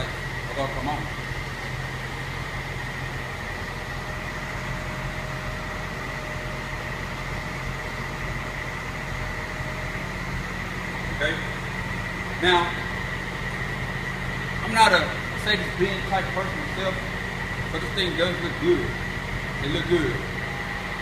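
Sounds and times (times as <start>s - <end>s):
faint high whine: 0.0s - 21.0s
low mechanical hum: 0.0s - 21.0s.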